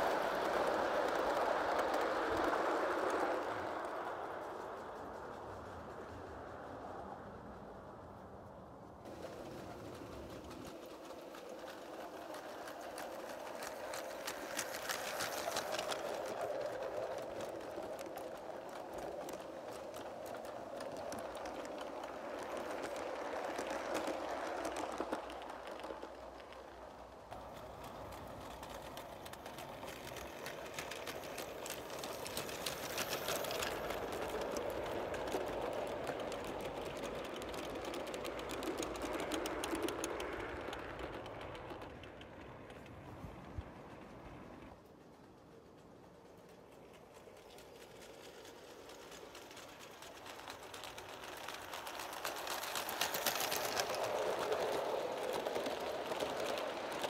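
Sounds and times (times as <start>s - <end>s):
model train wheels clattering: 0.0s - 5.4s, 9.0s - 57.0s
model train running hum: 0.0s - 57.0s.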